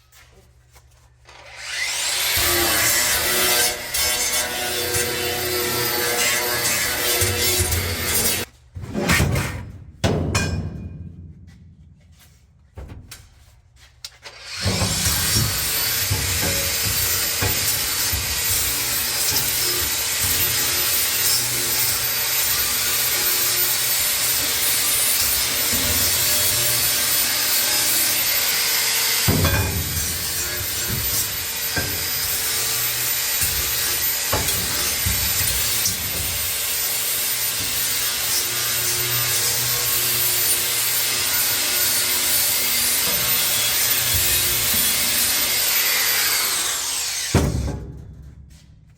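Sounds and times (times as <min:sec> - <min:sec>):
power tool rasping on metal: 0:01.4 - 0:08.5, 0:14.2 - 0:47.4.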